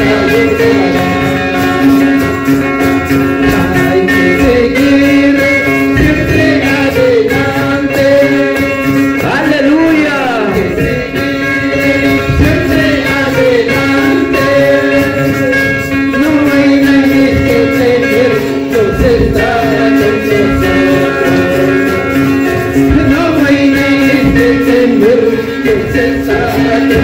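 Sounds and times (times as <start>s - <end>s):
men singing a hymn: 0.0s - 2.2s, 3.4s - 27.0s
hand drum: 0.0s - 27.0s
strummed acoustic guitar: 0.0s - 27.0s.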